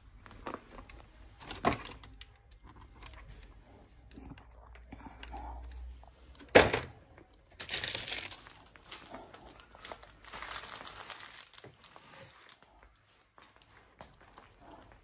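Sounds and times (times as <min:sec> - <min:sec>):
rustling and crinkling handling noise: 0:00.0 - 0:04.8, 0:05.5 - 0:15.0.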